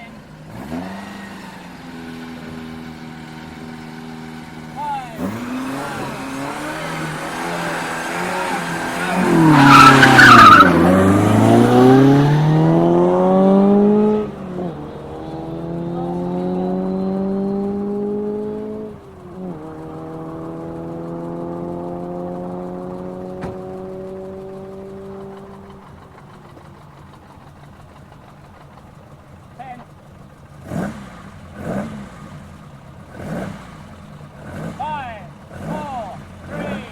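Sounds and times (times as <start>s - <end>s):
engine upshifts: 0.0s - 36.9s
rally car engine revving: 0.0s - 36.9s
tyres spinning: 0.2s - 30.6s.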